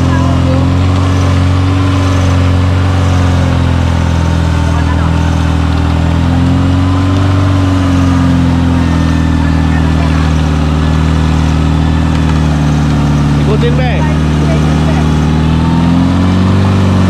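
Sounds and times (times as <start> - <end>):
vehicle engine revving high: 0.0 - 17.0.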